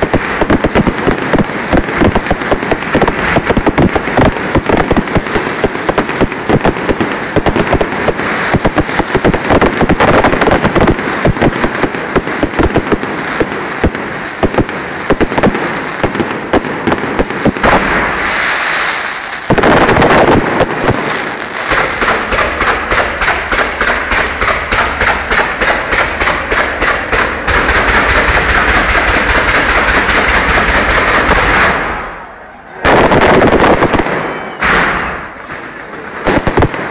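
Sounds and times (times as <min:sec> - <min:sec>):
fireworks hissing: 0:00.0 - 0:30.8
fireworks bangs and crackles: 0:00.0 - 0:36.9.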